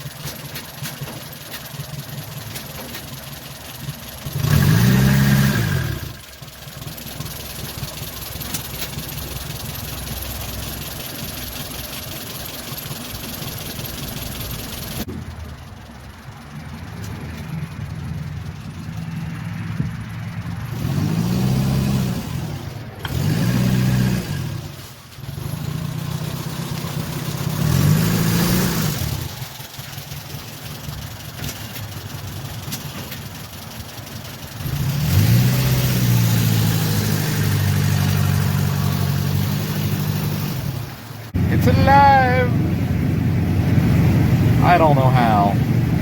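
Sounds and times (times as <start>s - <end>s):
car engine revving and idling: 0.0s - 46.0s.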